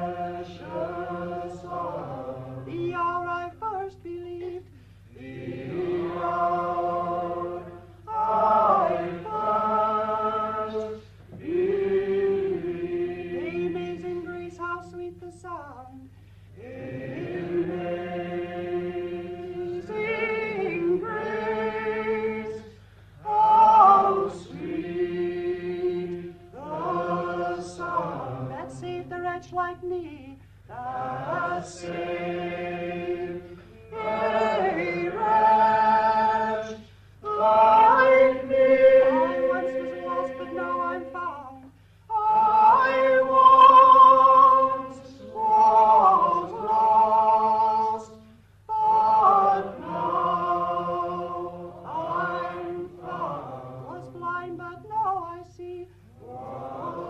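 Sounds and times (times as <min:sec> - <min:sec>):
low recording hum: 0:00.0 - 0:57.0.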